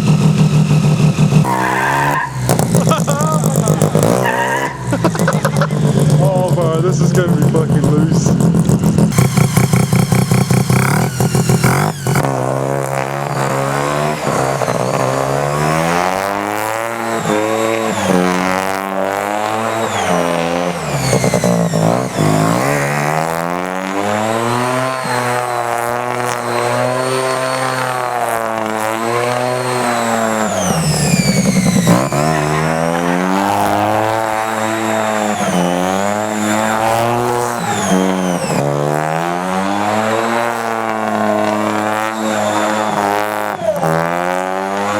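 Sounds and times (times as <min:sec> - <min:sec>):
rotary engine revving: 0:00.0 - 0:44.9.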